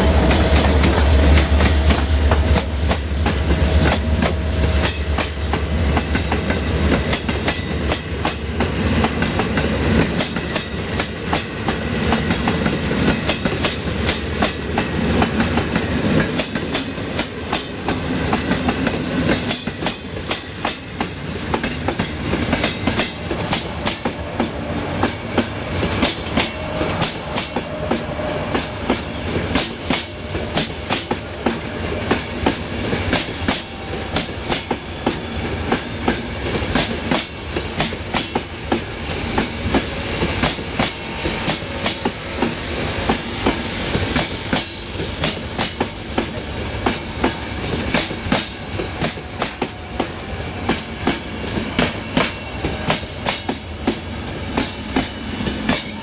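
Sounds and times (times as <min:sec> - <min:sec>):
low train rumble: 0:00.0 - 0:56.0
train wheels clattering over rail joints: 0:00.0 - 0:56.0.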